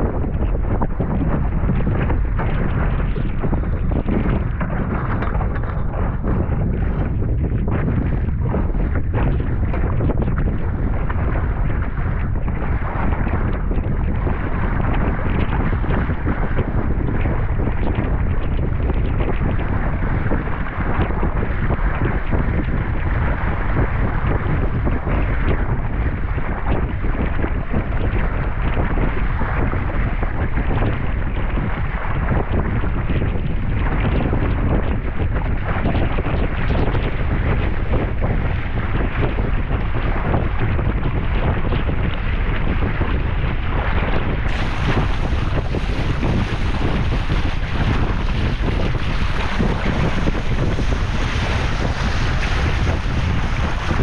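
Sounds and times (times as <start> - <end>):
choppy water slapping hull: 0.0 - 54.0
wind buffeting microphone: 0.0 - 54.0.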